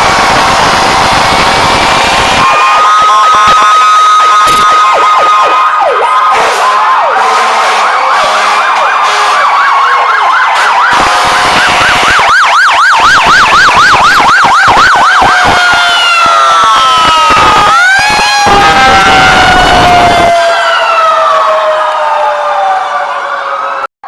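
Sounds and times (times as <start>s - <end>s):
fire truck sirens yelping: 0.0s - 23.9s
sirens wailing: 0.0s - 23.9s.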